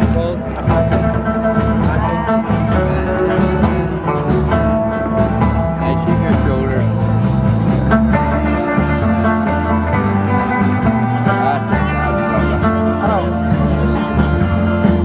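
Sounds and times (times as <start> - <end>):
loud music with guitar and bass: 0.0 - 15.0.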